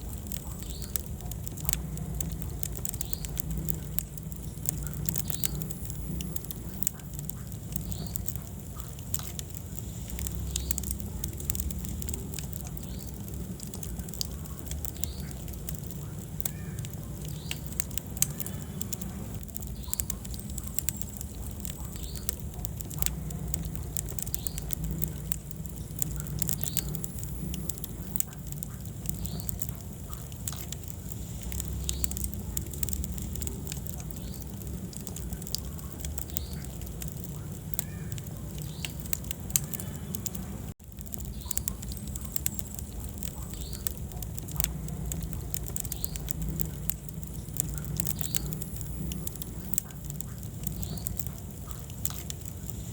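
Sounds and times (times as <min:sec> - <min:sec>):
low rumble of flame: 0:00.0 - 0:52.9
wood fire crackling and popping: 0:00.0 - 0:52.9.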